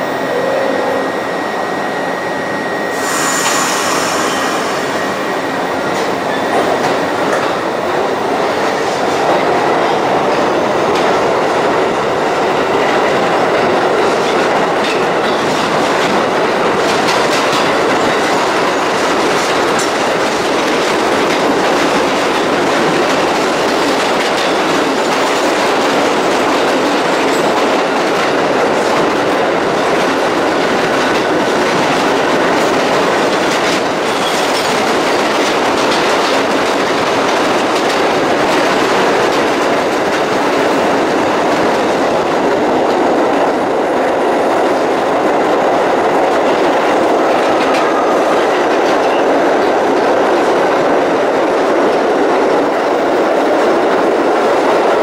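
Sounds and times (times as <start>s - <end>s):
subway train rumbling through tunnel: 0.0s - 55.0s.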